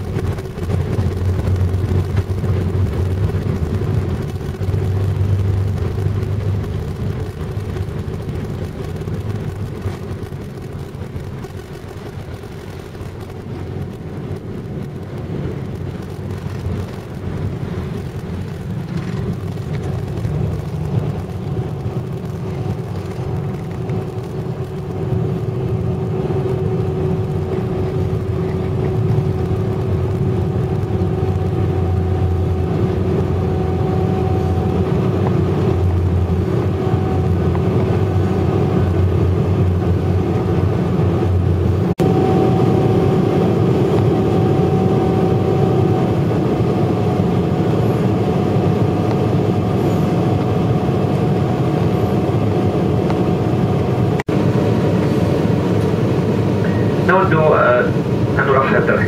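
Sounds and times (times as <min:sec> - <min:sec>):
jet engine drone: 0:00.0 - 0:59.0
steady humming tones: 0:00.0 - 0:59.0.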